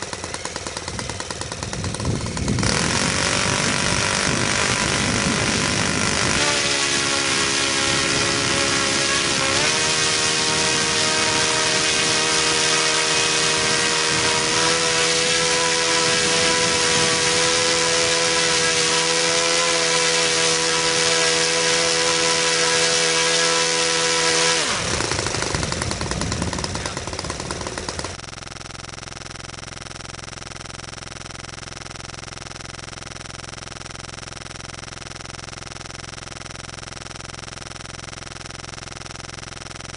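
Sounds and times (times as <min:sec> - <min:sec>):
model engine running at high throttle: 0:00.0 - 0:39.9.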